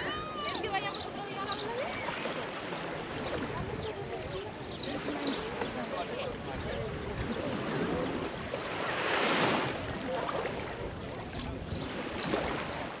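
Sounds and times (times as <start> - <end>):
faint distant voices: 0.0 - 13.0
small waves washing onto sand: 0.0 - 13.0.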